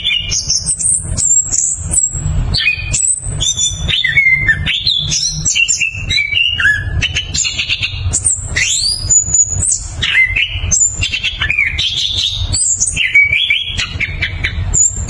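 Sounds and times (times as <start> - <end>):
thrush singing: 0.0 - 15.0.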